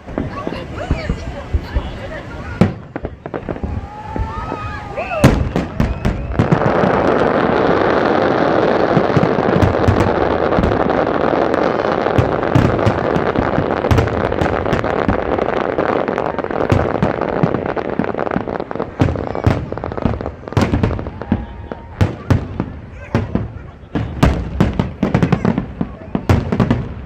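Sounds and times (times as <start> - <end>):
deep fireworks booms: 0.0 - 27.0
fireworks crackling and popping: 0.0 - 27.0.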